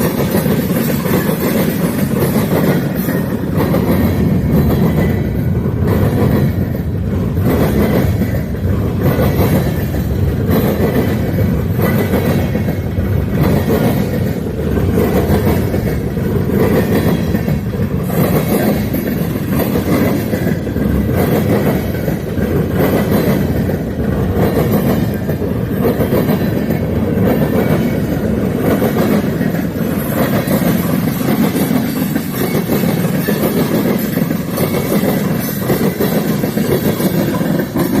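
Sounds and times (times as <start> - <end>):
freight train cars rolling past: 0.0 - 38.0.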